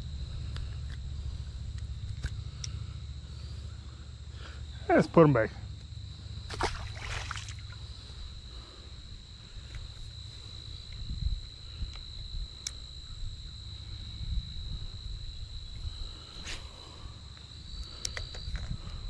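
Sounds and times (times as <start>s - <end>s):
insects droning: 0.0s - 19.0s
low rumble on microphone: 0.0s - 19.0s.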